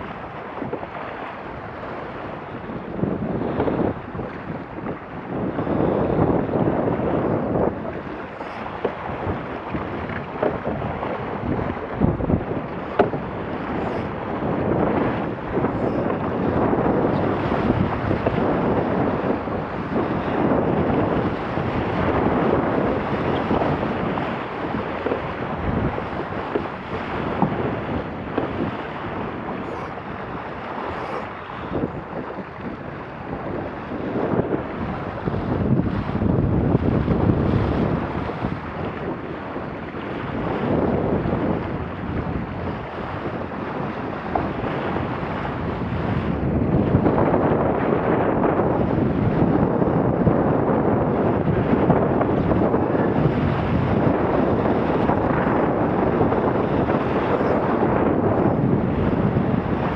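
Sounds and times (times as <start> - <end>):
water rushing along hull: 0.0 - 59.9
wind buffeting microphone: 0.0 - 59.9.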